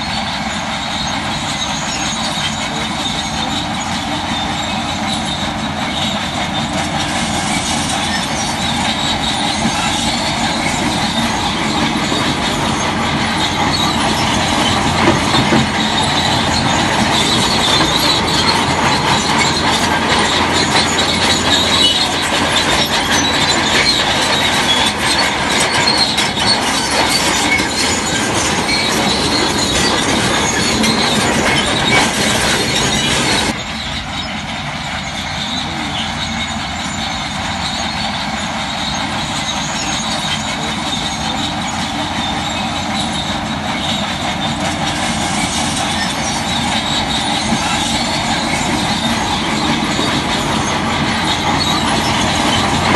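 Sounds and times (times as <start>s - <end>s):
bulldozer tracks squealing and clanking: 0.0s - 52.9s
diesel engine noise: 0.0s - 52.9s.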